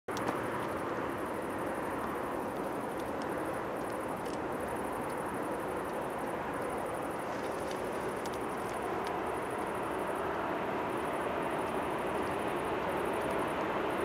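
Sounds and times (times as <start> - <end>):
outdoor background noise: 0.1 - 14.0.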